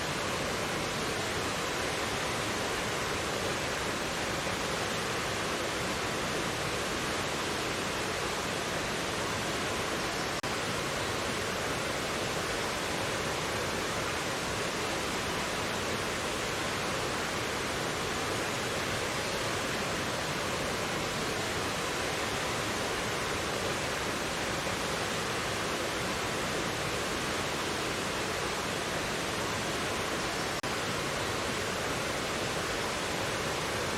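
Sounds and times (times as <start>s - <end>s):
stream rushing over rocks: 0.0s - 33.9s.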